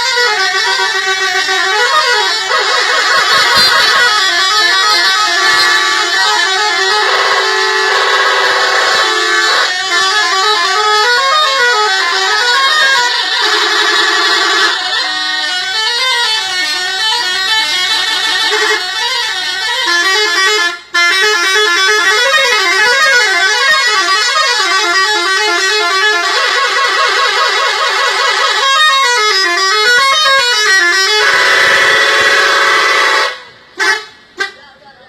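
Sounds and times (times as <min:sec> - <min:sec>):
multi-tone bus horn melody: 0:00.0 - 0:34.7.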